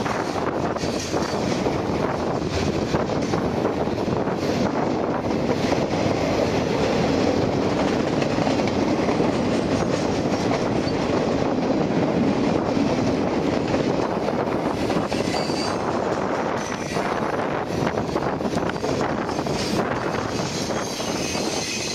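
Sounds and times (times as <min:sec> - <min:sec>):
freight train wheels on rails: 0:00.0 - 0:21.9.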